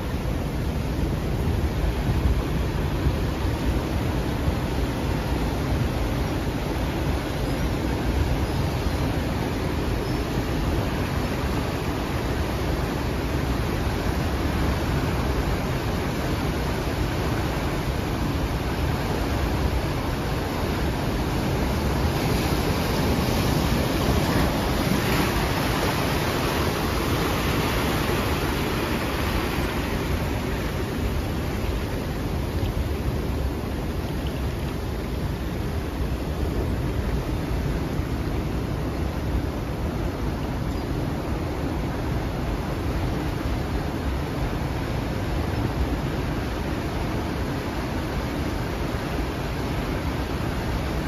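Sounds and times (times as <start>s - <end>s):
surf washing over rocks: 0.0s - 51.0s.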